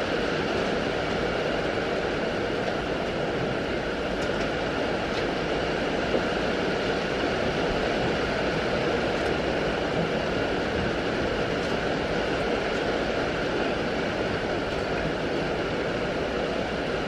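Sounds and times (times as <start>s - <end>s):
rain on a roof: 0.0s - 17.0s.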